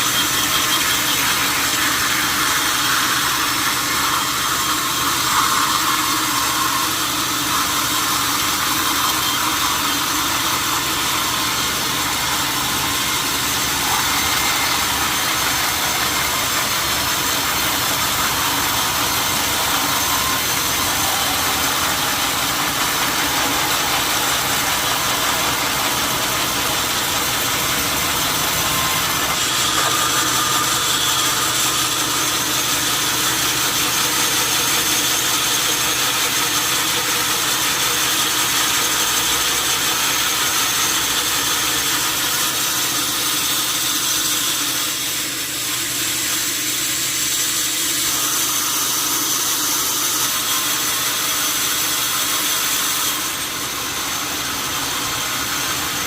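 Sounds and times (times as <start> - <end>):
sawmill saw humming and whining: 0.0 - 56.0.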